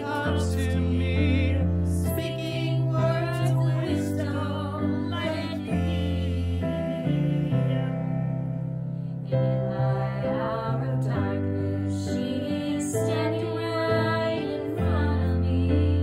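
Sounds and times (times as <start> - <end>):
mixed choir singing: 0.0 - 8.5, 9.2 - 16.0
piano: 0.0 - 16.0.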